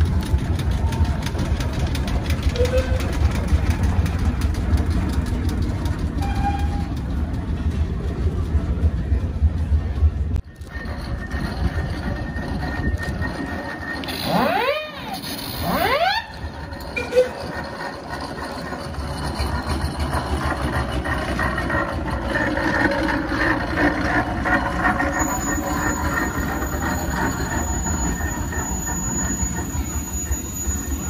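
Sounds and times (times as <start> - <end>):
steam traction engine rumble: 0.0 - 31.0.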